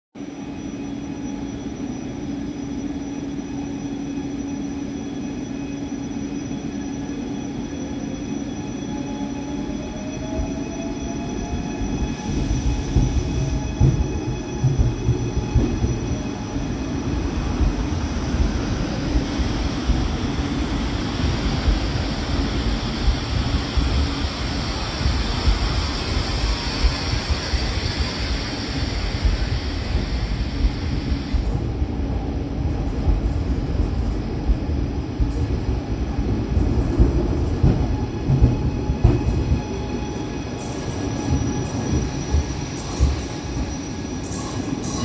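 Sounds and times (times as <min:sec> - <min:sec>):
electric train hum: 0:00.2 - 0:45.0.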